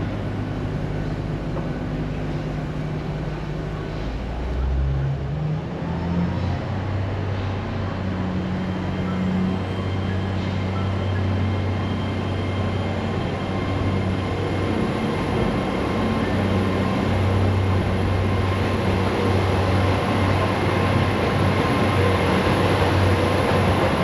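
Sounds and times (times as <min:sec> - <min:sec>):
large vehicle low rumble: 0:00.0 - 0:24.0.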